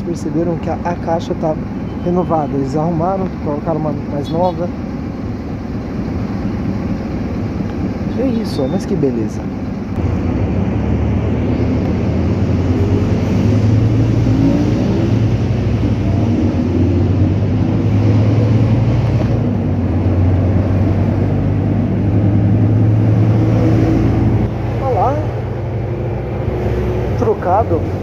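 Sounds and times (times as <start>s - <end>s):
bus diesel engine drone: 0.0s - 28.0s.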